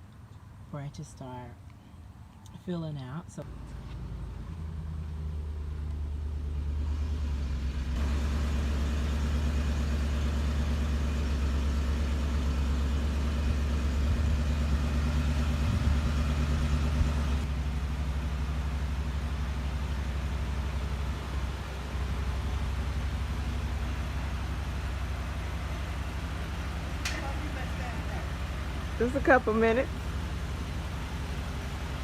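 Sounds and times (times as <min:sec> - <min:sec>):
engine humming: 0:00.0 - 0:32.0.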